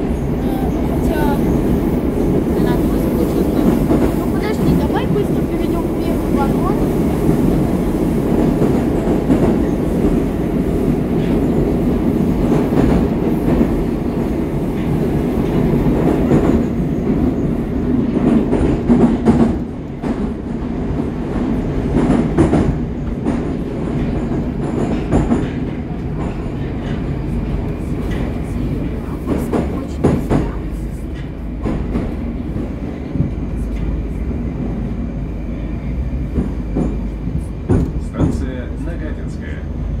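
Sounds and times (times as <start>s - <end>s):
train rumbling through tunnel: 0.0s - 40.0s.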